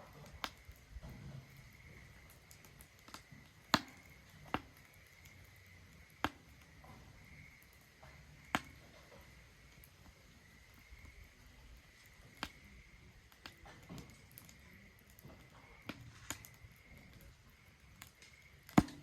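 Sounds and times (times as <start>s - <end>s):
faint fire ticks: 0.0s - 19.0s
rustle of flame: 0.0s - 19.0s
sharp pops of fire: 0.0s - 19.0s.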